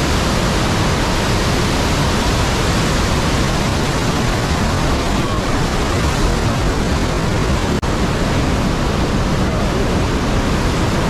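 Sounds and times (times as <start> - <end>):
waterfall rushing loudly: 0.0 - 11.0.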